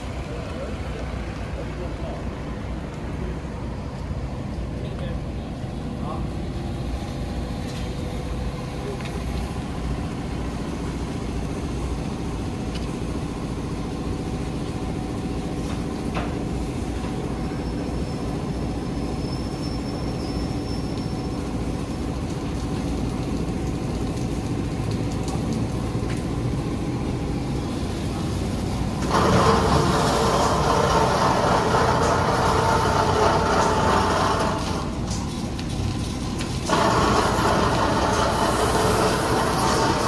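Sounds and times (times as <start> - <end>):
car wash machinery humming: 0.0 - 40.0.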